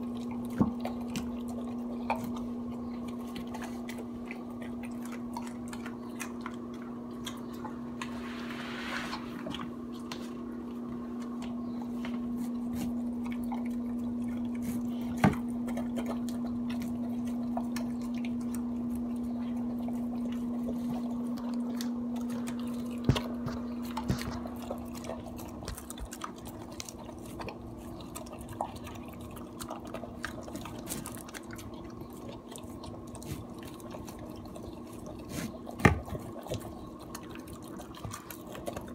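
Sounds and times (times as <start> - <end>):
dog licking and chewing food: 0.0 - 8.2, 9.1 - 38.9
steady low hum: 0.0 - 38.9.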